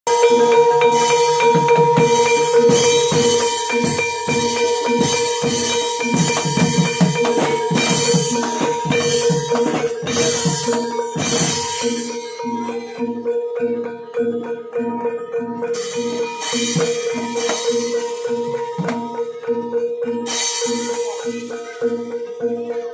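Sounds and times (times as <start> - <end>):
fast hand-drum patterns: 0.1 - 22.9
steady ringing tone: 0.1 - 22.9
struck metal percussion: 0.1 - 22.9.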